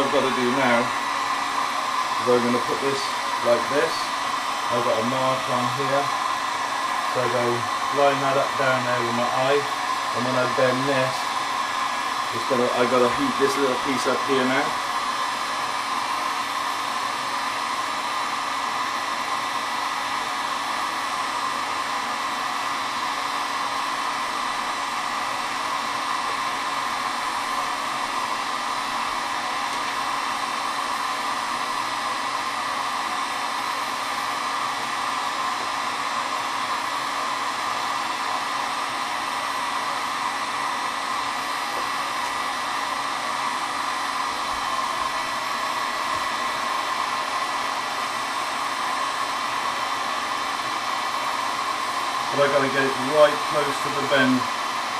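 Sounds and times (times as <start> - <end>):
heat gun blowing: 0.0 - 54.9.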